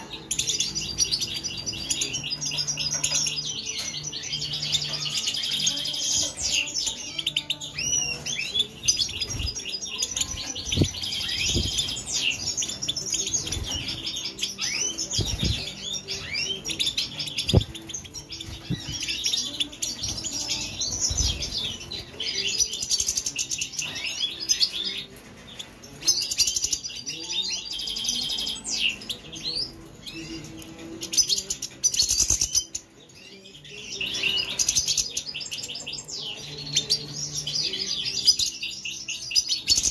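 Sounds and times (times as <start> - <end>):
goldfinches twittering and chirping: 0.0 - 39.9.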